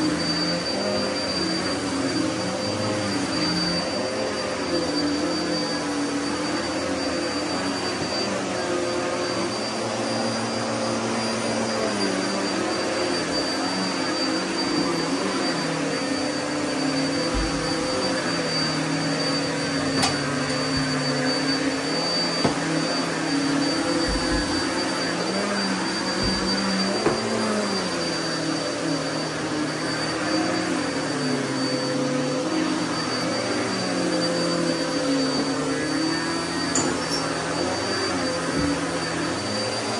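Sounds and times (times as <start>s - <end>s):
vacuum cleaner running over carpet: 0.0s - 39.9s.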